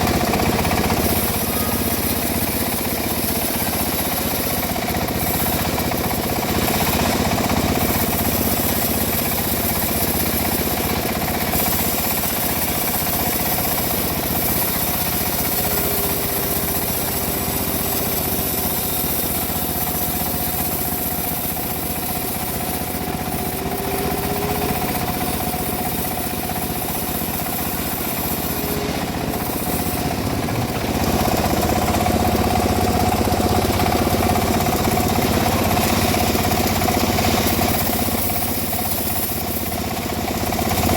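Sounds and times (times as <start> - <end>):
engine-driven bandsaw mill sawing: 0.0 - 40.9.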